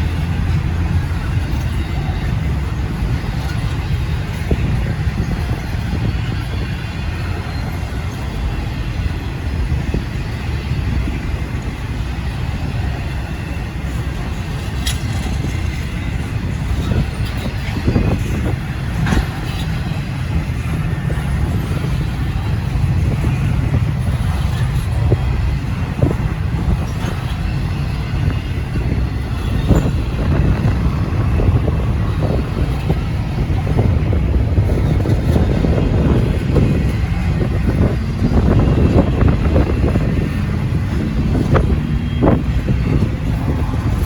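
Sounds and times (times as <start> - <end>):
freight train rumbling past: 0.0 - 44.0
train wheels clanking: 0.0 - 44.0
wind buffeting microphone: 0.0 - 44.0.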